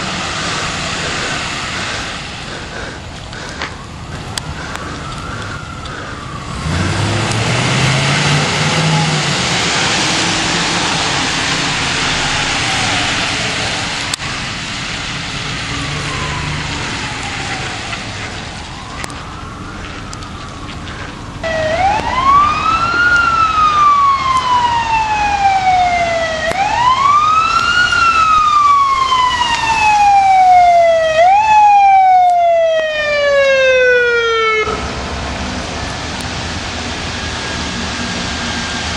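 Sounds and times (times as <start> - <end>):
distant siren wailing: 0.0 - 38.9
loud fire engine siren wailing: 0.0 - 38.9
tyres hissing on wet road: 0.0 - 38.9
vehicle engine passing: 0.0 - 38.9.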